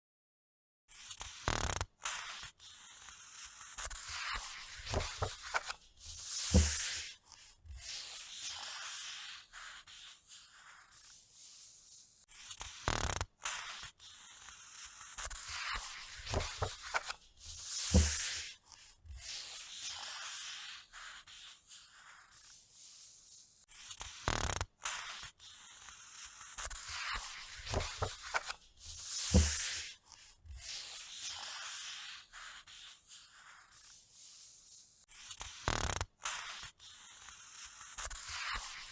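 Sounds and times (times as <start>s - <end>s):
crisp scratching and rubbing: 0.9s - 38.9s.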